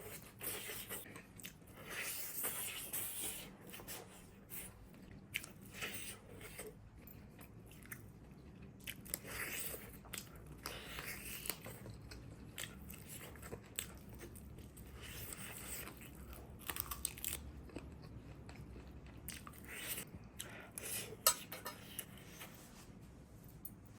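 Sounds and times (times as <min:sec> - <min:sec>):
person chewing crunchy food: 0:00.0 - 0:22.6.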